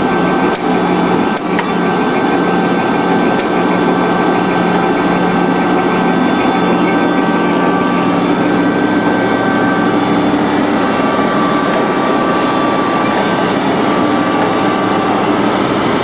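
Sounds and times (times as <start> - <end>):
band saw running: 0.0 - 16.0.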